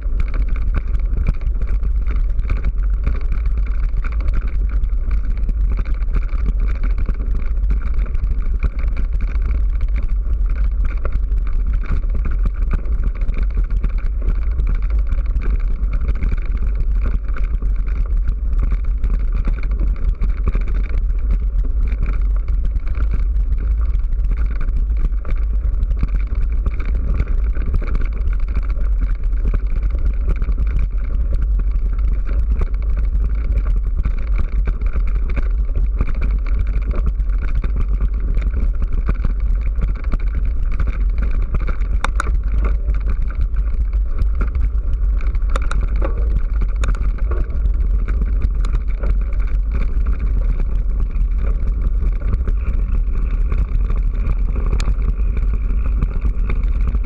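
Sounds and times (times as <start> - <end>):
sharp clicks and knocks: 0.0 - 57.0
wind and riding vibration: 0.0 - 57.0.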